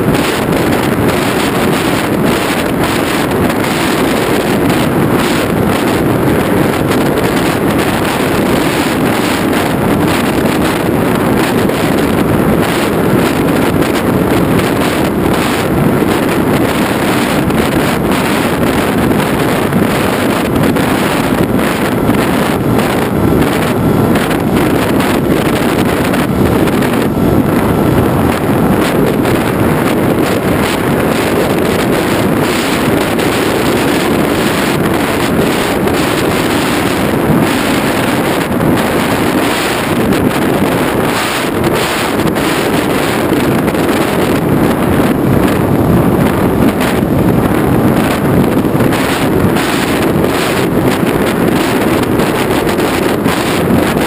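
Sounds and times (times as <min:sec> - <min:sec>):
wind buffeting on camera: 0:00.0 - 0:54.0.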